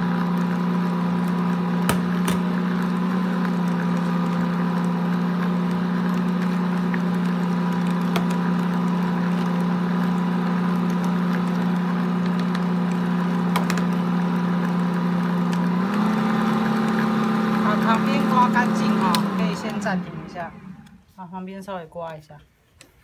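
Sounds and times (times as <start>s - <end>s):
stand mixer motor humming: 0.0s - 21.0s.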